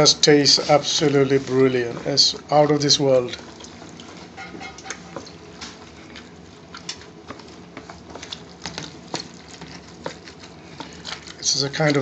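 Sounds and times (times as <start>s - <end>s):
wet squelches of mixing food: 0.0s - 12.0s.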